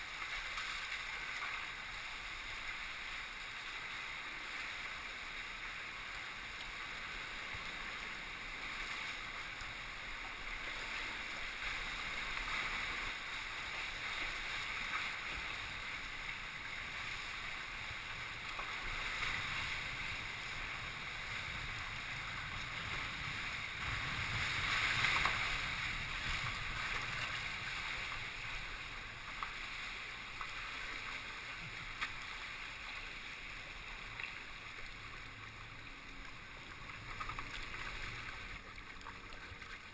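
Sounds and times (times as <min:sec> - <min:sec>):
water splashing around kayak: 0:00.0 - 0:39.9.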